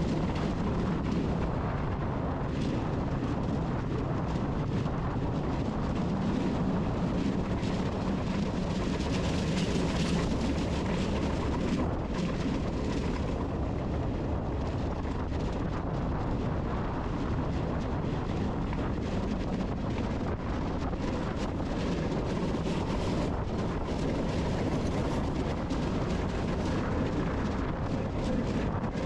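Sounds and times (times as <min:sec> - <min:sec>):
low rumbling noise: 0:00.0 - 0:29.0.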